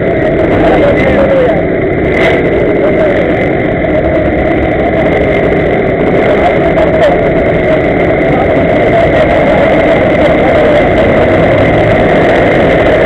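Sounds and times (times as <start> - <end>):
small scooter engines idling: 0.0 - 13.0.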